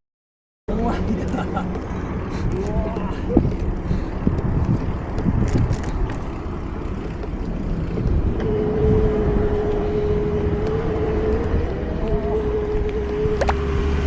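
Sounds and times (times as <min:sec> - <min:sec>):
steady droning hum: 0:00.7 - 0:14.0
wind rumble on microphone: 0:00.7 - 0:14.0.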